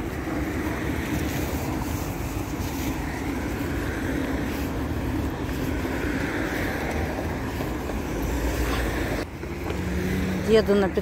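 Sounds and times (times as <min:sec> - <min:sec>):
road traffic: 0:00.0 - 0:11.0
wind rumbling on microphone: 0:00.0 - 0:11.0.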